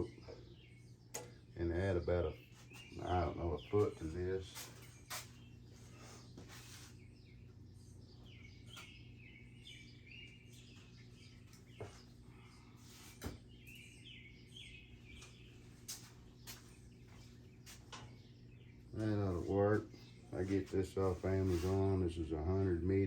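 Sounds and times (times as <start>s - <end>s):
faint birds chirping: 0.0s - 23.0s
low steady hum: 0.0s - 23.0s.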